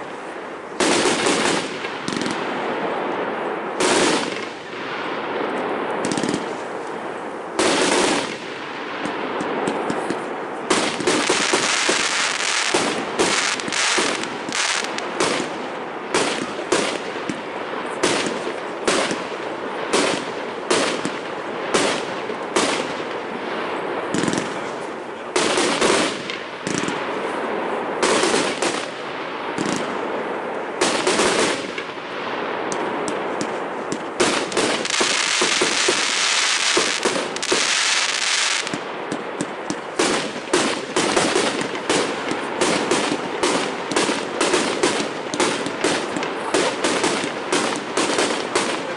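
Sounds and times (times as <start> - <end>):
fireworks crackling and banging: 0.0 - 48.9.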